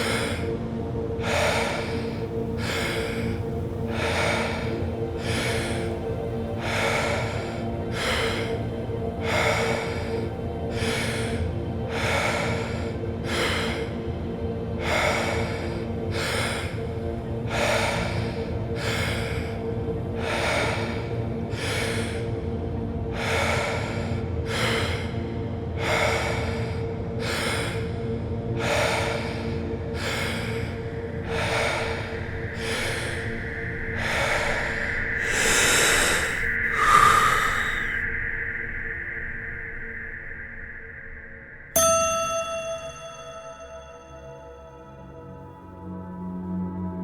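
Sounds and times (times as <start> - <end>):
deep rhythmic breathing: 0.0 - 38.7, 42.1 - 47.0
ambient music drone: 0.0 - 47.0.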